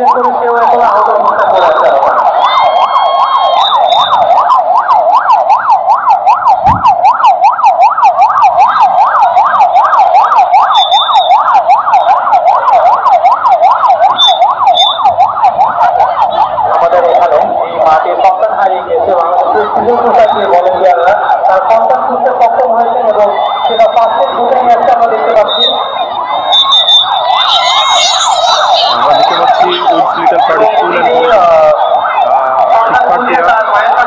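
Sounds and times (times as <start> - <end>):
ambulance siren yelping: 0.0 - 34.0.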